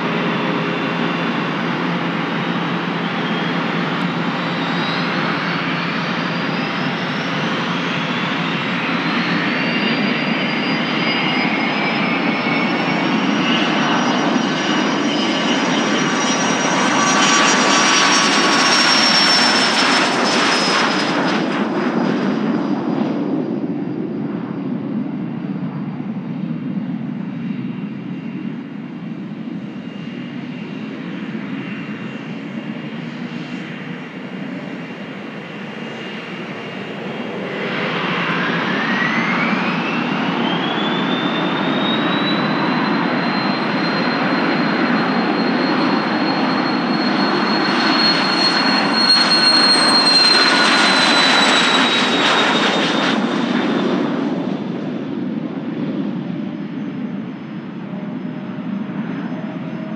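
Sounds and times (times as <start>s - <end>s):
high jet whine: 0.0s - 59.9s
jet engines on takeoff: 0.0s - 59.9s.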